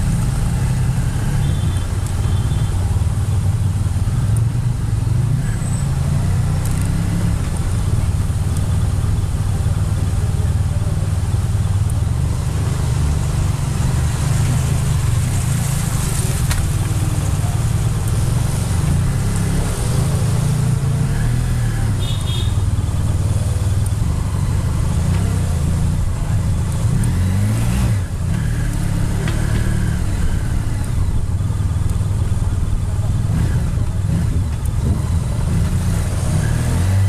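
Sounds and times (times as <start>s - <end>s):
motorcycle engine rumbling: 0.0s - 37.0s.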